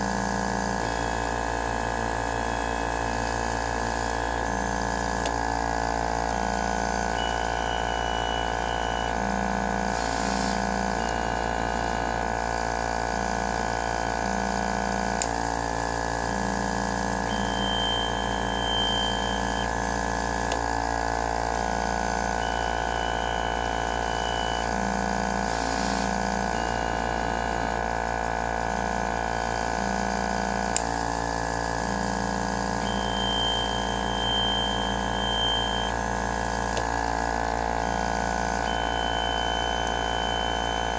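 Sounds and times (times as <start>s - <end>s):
steady machine hum: 0.0s - 40.9s
whining motor tones: 0.0s - 40.9s.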